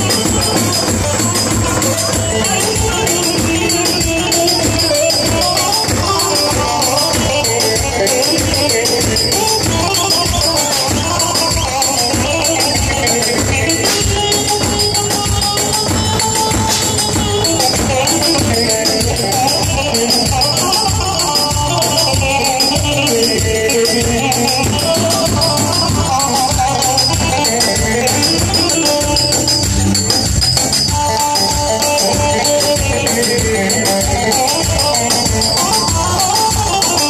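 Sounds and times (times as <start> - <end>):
electronic keyboard folk dance music: 0.0 - 37.0
rattling percussion: 0.0 - 37.0.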